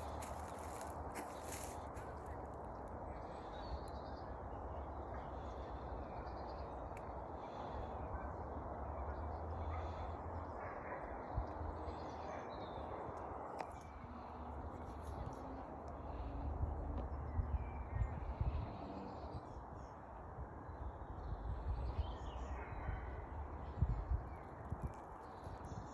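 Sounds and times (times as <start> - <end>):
wild birds singing: 0.0 - 25.9.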